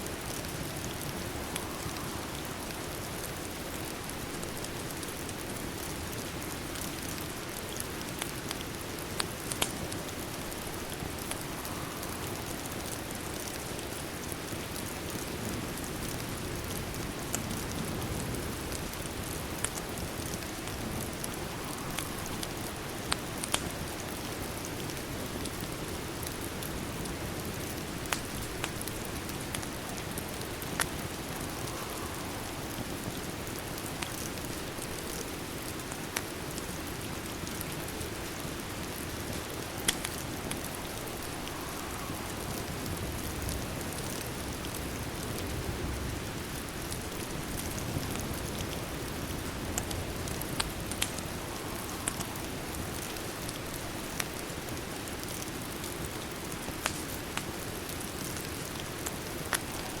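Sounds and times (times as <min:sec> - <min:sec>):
steady rain: 0:00.0 - 1:00.0
wood fire crackling: 0:00.0 - 1:00.0.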